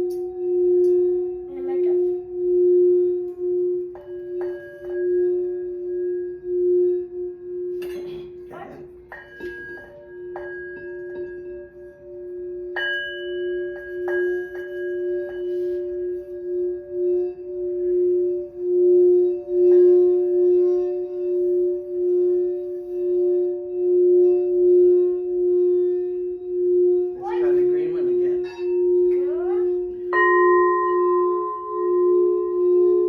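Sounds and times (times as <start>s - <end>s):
pulsing low hum: 0.0s - 33.0s
singing bowls ringing: 0.0s - 33.0s.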